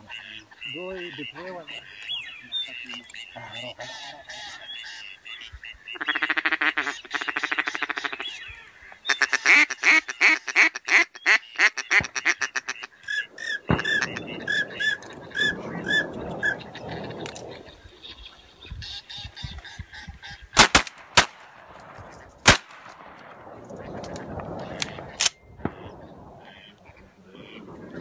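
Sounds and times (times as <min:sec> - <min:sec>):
ducks quacking: 0:00.0 - 0:20.6, 0:23.4 - 0:28.0.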